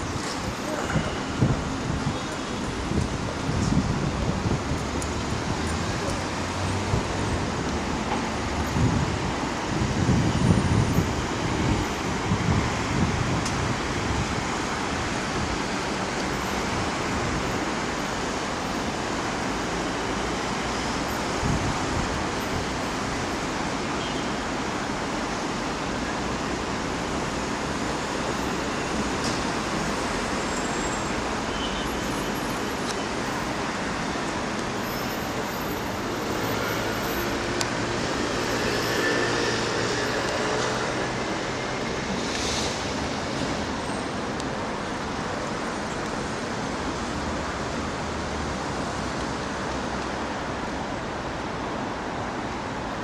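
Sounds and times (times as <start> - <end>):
road traffic: 0.0 - 53.0.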